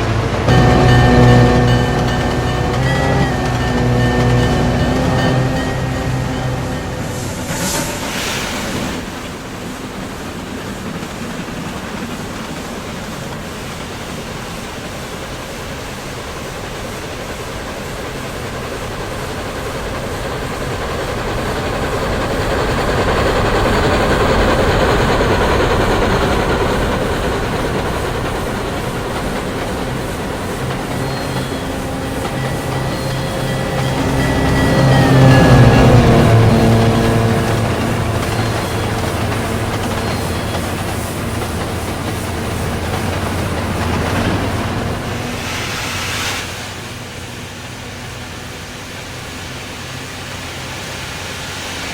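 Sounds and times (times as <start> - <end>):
train clickety-clack on rails: 0.0 - 51.9.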